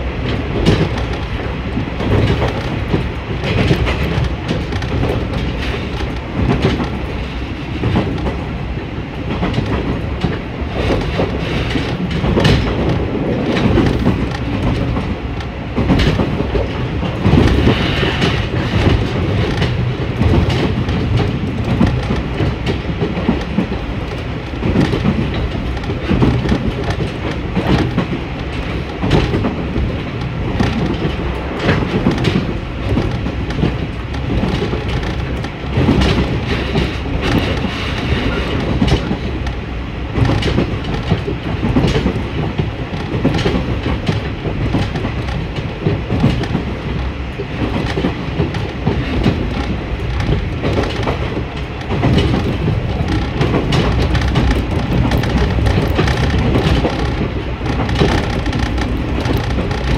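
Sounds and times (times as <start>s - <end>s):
railcar rumble: 0.0s - 59.9s
wheels clicking over rail joints: 0.2s - 8.6s, 9.2s - 59.9s.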